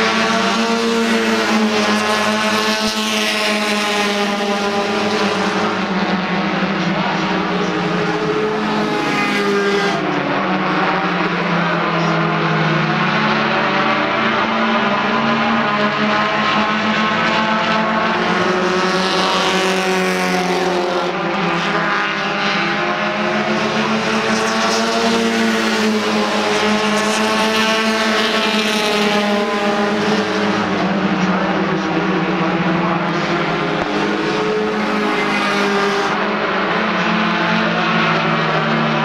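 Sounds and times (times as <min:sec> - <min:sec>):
race car engines revving: 0:00.0 - 0:39.0.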